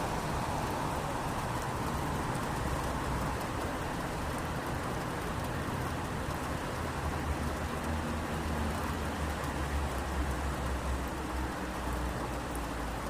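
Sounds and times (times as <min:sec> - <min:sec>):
rain on street: 0:00.0 - 0:13.0.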